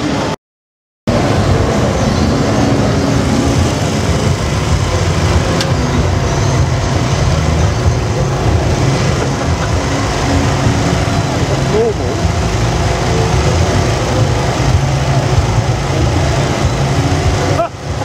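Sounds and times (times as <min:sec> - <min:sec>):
low drone of vehicle engines: 0:00.0 - 0:00.4, 0:01.1 - 0:18.0.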